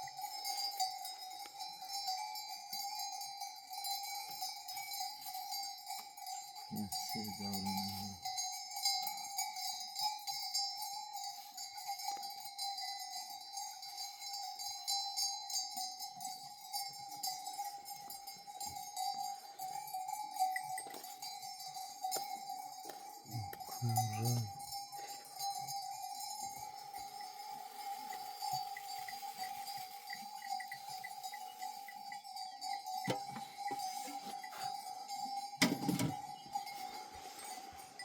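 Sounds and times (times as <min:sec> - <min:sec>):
livestock bells ringing: 0:00.0 - 0:38.0.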